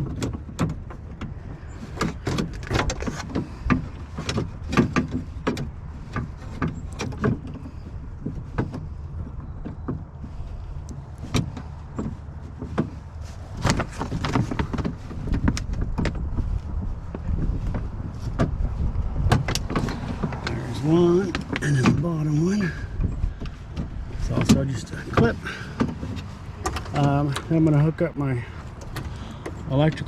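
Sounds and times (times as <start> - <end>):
clicks and rattles inside door: 0.0 - 27.8
steady low hum: 0.8 - 30.0.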